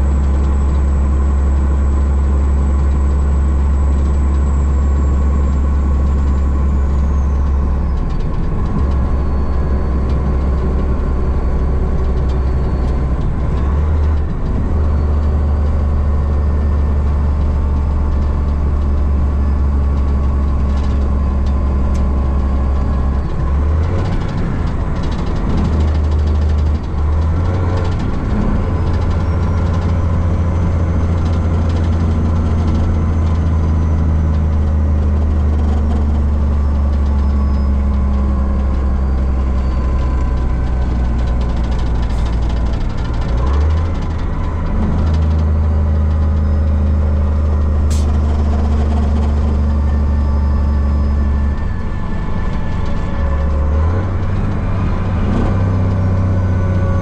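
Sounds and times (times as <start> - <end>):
road noise: 0.0 - 57.0
truck engine low drone: 0.0 - 57.0.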